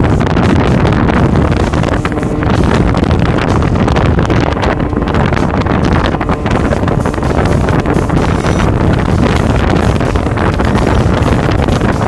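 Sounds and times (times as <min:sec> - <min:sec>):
boat motor: 0:00.0 - 0:12.0
hull on water: 0:00.0 - 0:12.0
wind buffeting microphone: 0:00.0 - 0:12.0.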